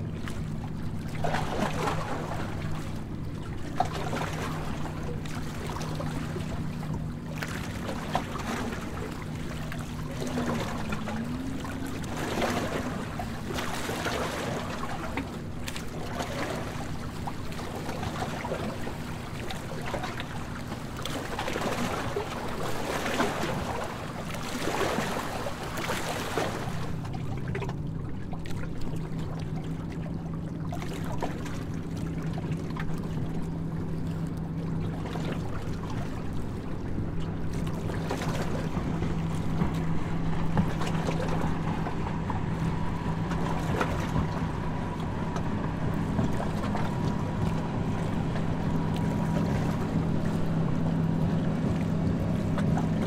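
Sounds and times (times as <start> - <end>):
boat engine humming: 0.0 - 53.0
rushing wind and water: 0.0 - 53.0.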